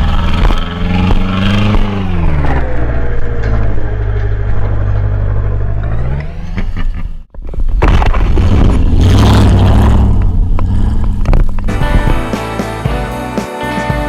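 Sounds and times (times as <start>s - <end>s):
vehicle engine revving: 0.0s - 7.3s, 7.9s - 13.3s.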